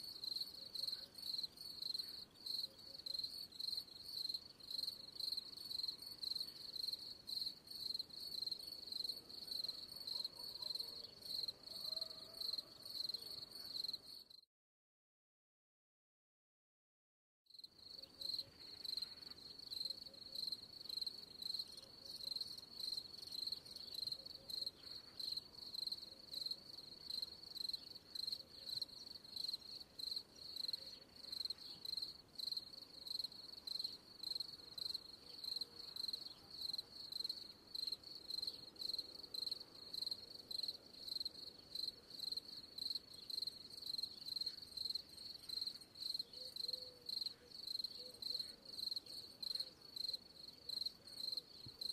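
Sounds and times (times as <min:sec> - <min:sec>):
crickets chirping: 0:00.0 - 0:14.4, 0:17.6 - 0:51.9.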